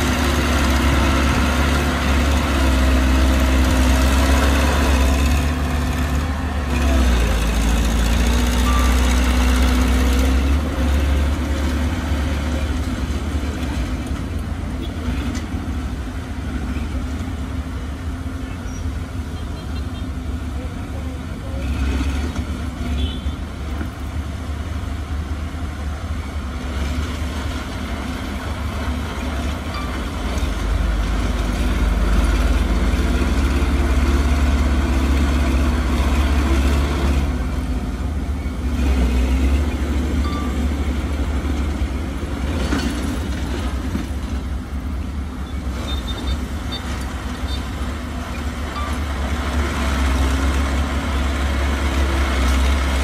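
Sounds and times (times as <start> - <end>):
heavy diesel machinery engine: 0.0 - 53.0.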